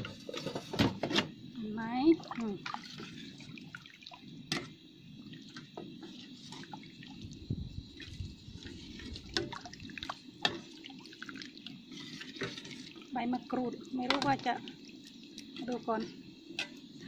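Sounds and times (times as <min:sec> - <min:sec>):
broth sloshing and dripping: 0:01.8 - 0:17.0.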